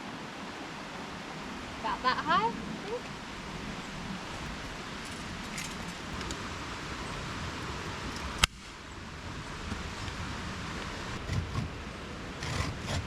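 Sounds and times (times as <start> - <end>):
flowing stream water: 0.0 - 13.0.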